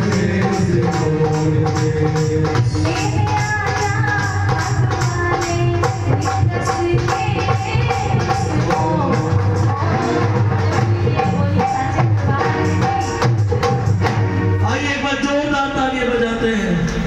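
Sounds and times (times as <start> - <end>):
drums: 0.0 - 15.5, 16.5 - 17.0.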